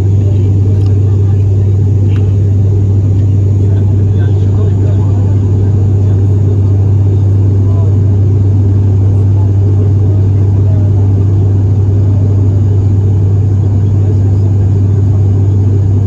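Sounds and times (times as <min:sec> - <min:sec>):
turboprop cabin drone: 0:00.0 - 0:16.0.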